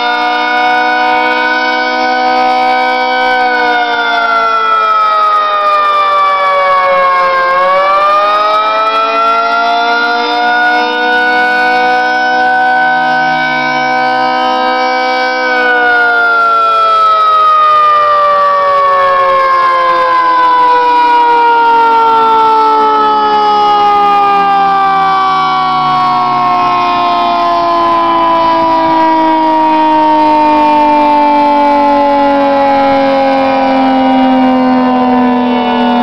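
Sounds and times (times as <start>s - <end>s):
dual-tone warning siren wailing: 0.0s - 36.0s.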